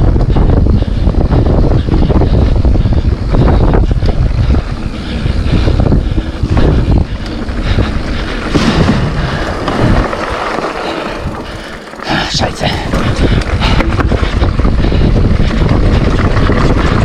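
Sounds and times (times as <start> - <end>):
bike knocking and rattling: 0.0 - 17.0
tyres rumbling on trail: 0.0 - 17.0
wind buffeting microphone: 0.0 - 17.0.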